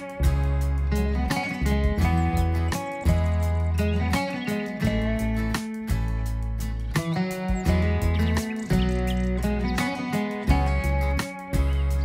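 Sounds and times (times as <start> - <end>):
plucked guitar tune: 0.0 - 12.0.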